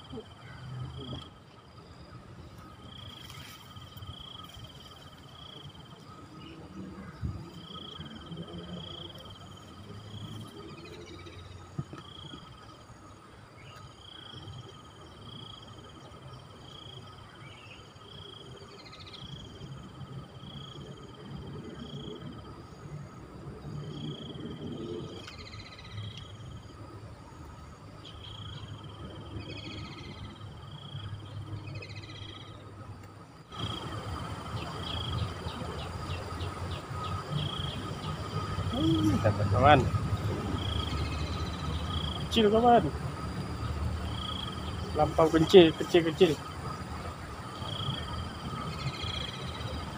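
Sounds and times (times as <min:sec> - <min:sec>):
insects trilling: 0:00.0 - 0:49.9.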